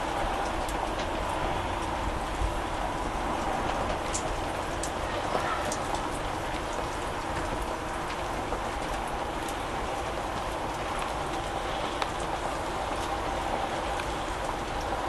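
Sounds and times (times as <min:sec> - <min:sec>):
steady rain-like hiss: 0:00.0 - 0:15.0.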